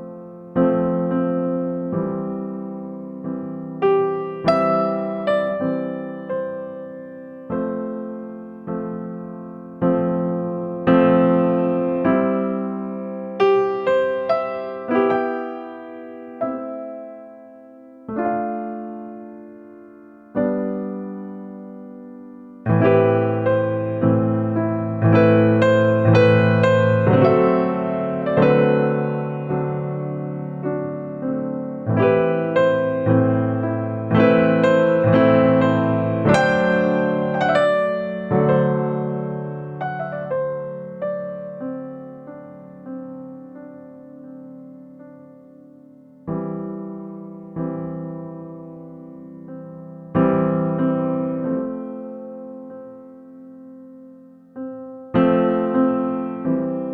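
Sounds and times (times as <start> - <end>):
electric piano music: 0.0 - 56.9.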